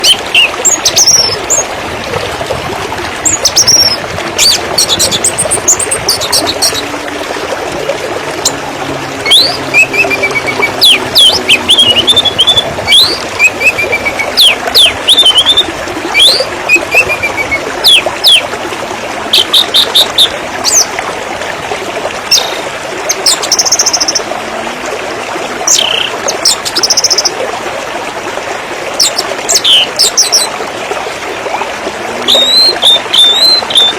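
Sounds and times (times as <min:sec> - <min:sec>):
waterfall rushing: 0:00.0 - 0:26.5, 0:27.2 - 0:33.9.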